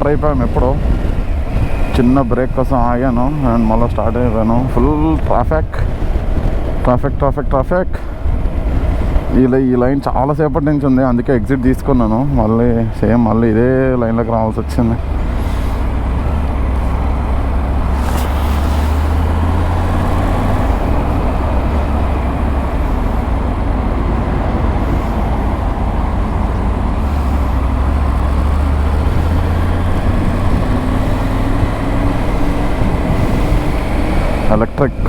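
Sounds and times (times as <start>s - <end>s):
motorcycle engine deep hum: 0.0s - 35.0s
road noise: 0.0s - 35.0s.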